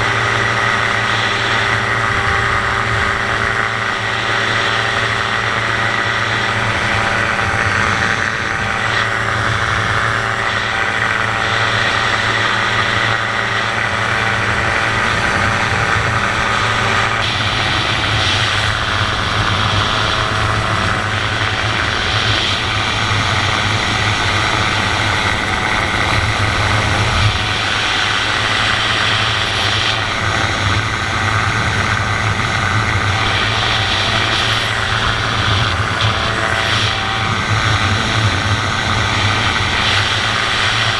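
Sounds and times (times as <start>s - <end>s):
aircraft engine and propeller: 0.0s - 40.9s
wind noise: 0.0s - 40.9s.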